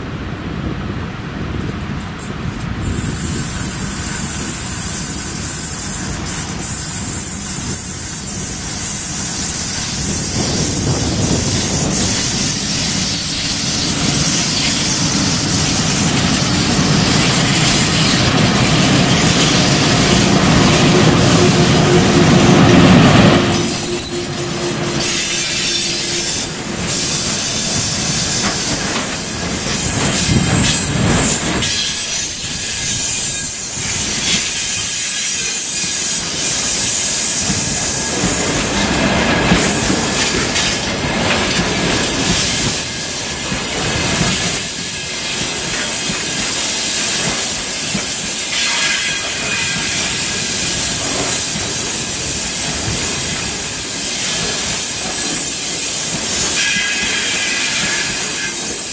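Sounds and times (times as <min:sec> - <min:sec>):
train wheels clattering over rails: 0:00.9 - 0:58.9
high wheel squeal: 0:02.8 - 0:58.9.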